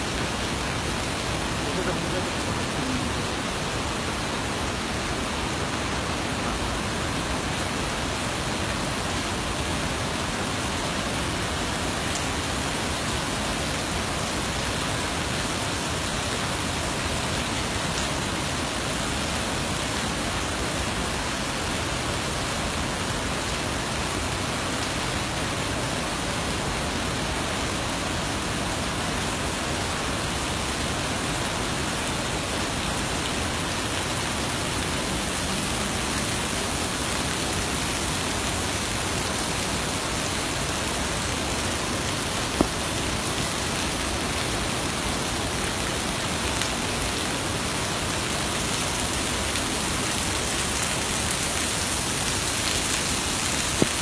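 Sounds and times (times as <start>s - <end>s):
heavy rain: 0.0s - 54.0s
waterfalls pouring: 0.0s - 54.0s.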